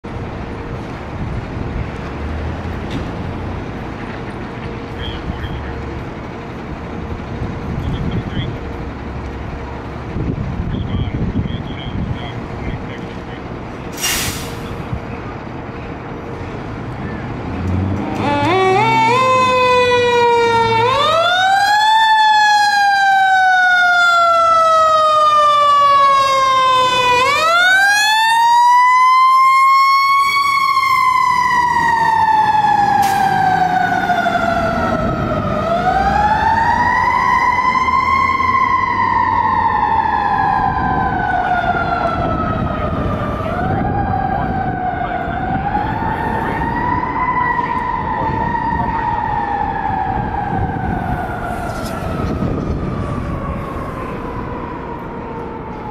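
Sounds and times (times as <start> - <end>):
fire engine siren wailing: 0.0 - 55.9.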